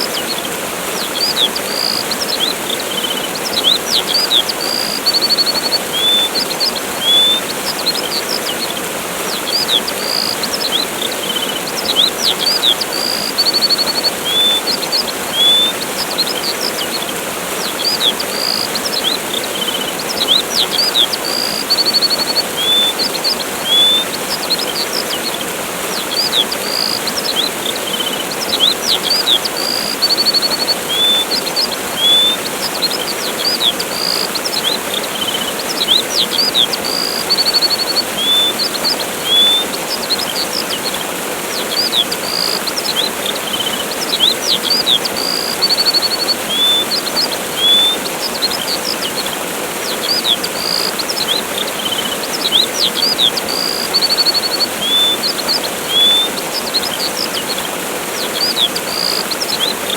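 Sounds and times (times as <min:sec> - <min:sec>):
birds chirping and trilling: 0:00.0 - 0:59.9
waterfall rushing: 0:00.0 - 0:59.9.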